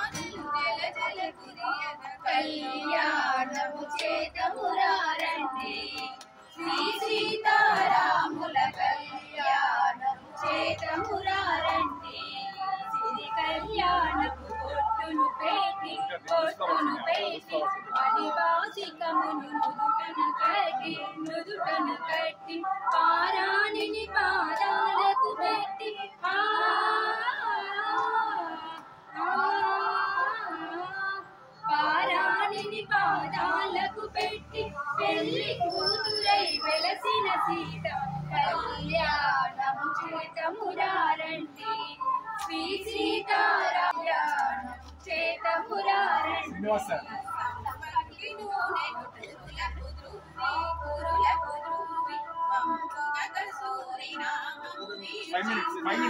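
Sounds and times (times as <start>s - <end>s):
women singing together: 0.0s - 56.0s.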